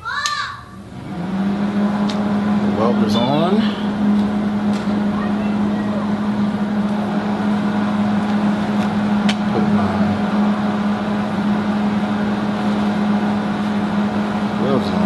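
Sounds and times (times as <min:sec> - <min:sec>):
welder humming: 0:00.8 - 0:15.0.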